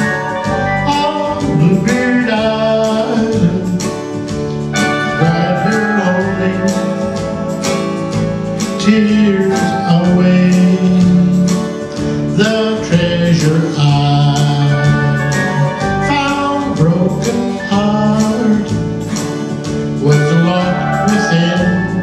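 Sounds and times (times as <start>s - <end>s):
man singing into a microphone: 0.0s - 7.4s, 8.6s - 22.0s
strummed acoustic guitar: 0.0s - 22.0s.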